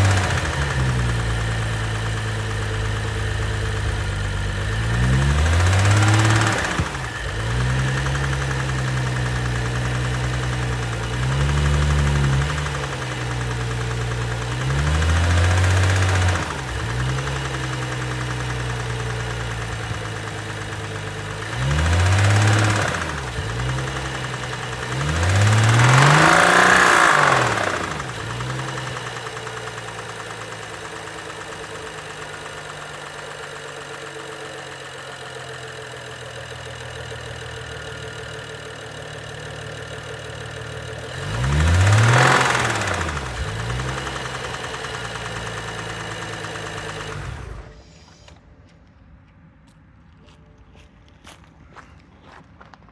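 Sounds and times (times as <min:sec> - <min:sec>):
engine knocking: 0:00.0 - 0:47.8
car engine idling and revving: 0:00.0 - 0:49.3.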